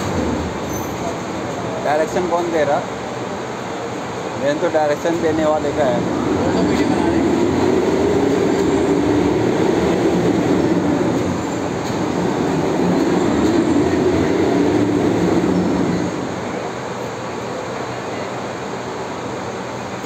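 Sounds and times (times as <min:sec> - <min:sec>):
overhead crane machine whine: 0:00.0 - 0:20.0.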